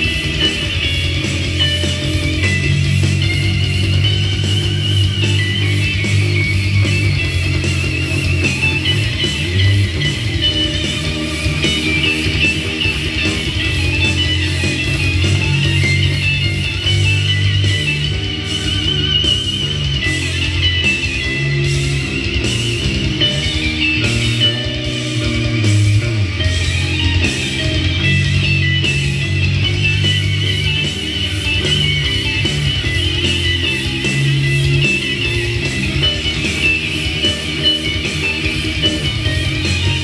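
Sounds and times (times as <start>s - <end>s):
heavy rock electric guitar: 0.0s - 40.0s
pulsing high beat: 0.0s - 40.0s
sustained bass notes: 0.0s - 40.0s.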